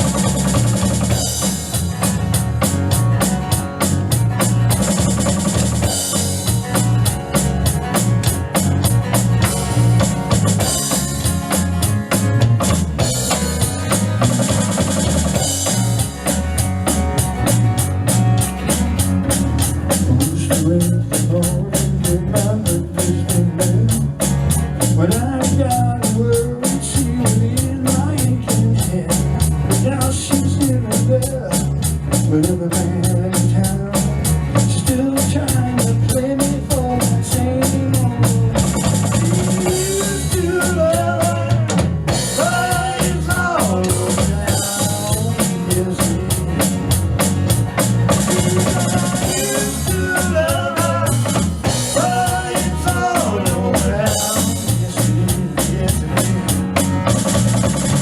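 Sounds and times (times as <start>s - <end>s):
bending melodic lead line: 0.0s - 24.0s, 34.3s - 58.0s
drum kit beat: 0.0s - 58.0s
low bass line: 0.0s - 58.0s.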